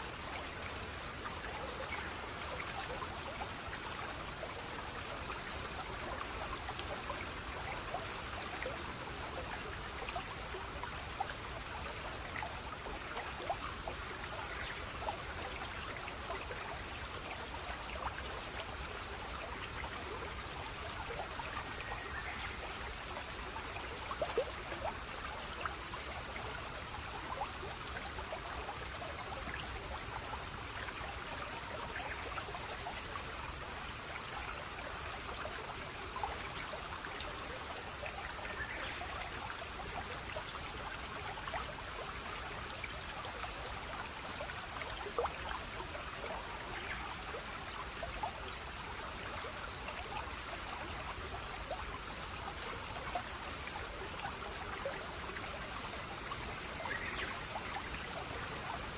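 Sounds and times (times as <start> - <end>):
stream trickling and babbling: 0.0 - 58.9.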